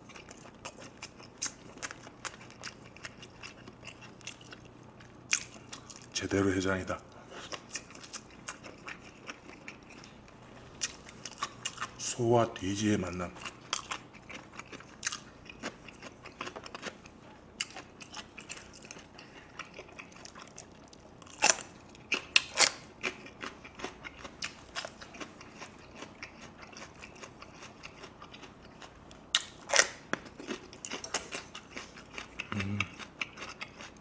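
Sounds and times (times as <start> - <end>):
chewing: 0.0 - 6.2, 7.1 - 12.0, 13.4 - 34.0.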